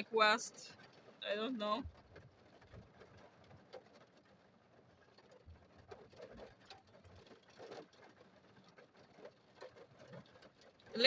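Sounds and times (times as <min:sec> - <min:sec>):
rain pattering on a car: 0:00.0 - 0:11.0.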